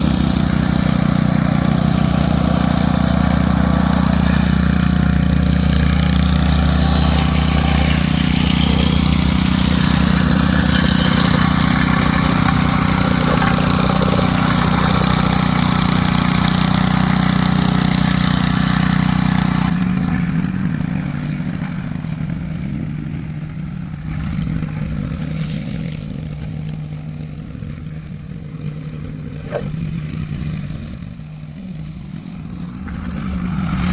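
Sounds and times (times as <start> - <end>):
plate compactor engine running: 0.0 - 33.9.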